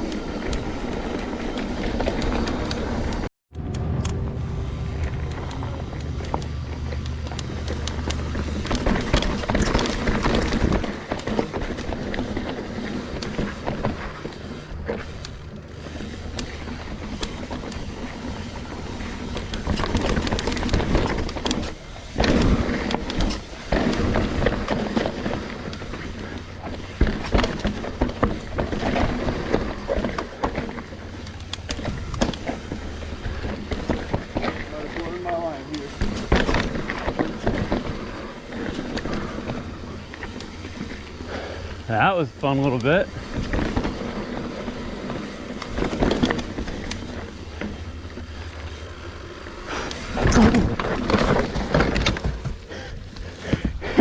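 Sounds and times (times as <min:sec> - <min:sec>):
bike knocks and rattles: 0:00.0 - 0:03.3, 0:05.0 - 0:54.0
bike tyre noise on dirt: 0:00.0 - 0:54.0.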